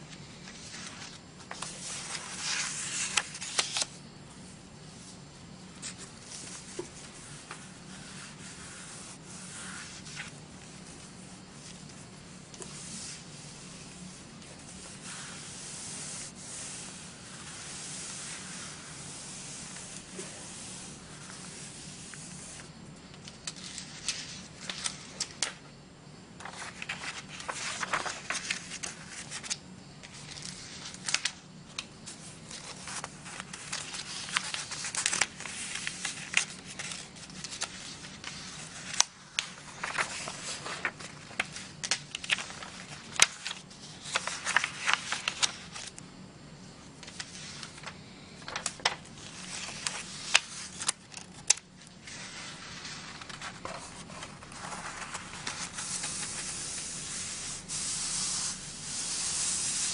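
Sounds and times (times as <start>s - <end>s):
paper crackling and rustling: 0.1s - 4.0s, 5.7s - 25.6s, 26.4s - 46.0s, 47.0s - 59.9s
hands rubbing crinkled paper: 0.4s - 4.0s, 5.7s - 25.5s, 26.4s - 45.9s, 47.0s - 59.9s.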